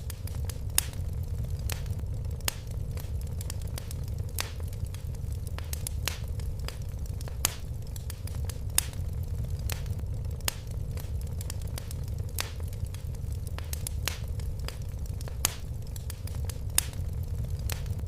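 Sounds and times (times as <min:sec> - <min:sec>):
fire crackling and popping: 0:00.0 - 0:18.0
low fire rumble: 0:00.0 - 0:18.0.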